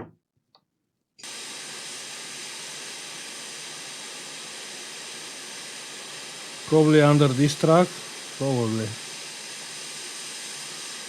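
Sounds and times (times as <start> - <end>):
hot air station hissing: 1.2 - 11.0.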